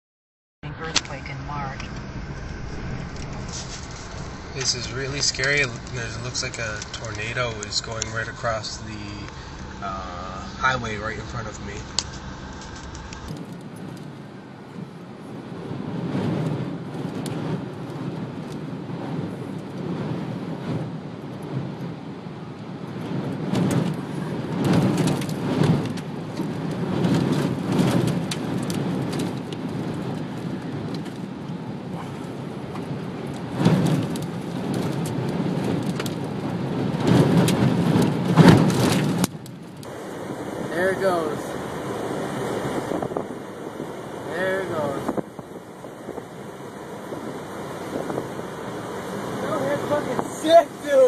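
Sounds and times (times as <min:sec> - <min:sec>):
rain lashing a car: 0:00.7 - 0:51.0.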